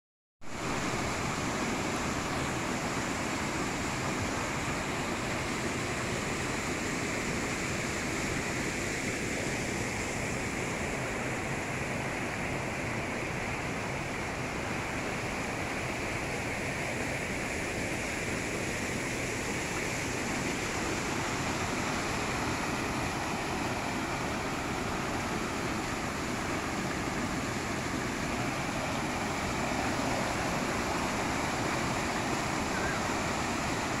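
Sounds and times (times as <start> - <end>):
stream rushing over rocks: 0.4 - 34.0.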